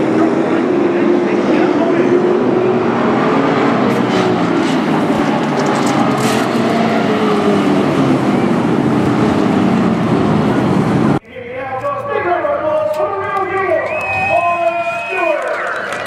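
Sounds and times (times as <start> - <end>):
race truck engines passing: 0.0 - 16.0.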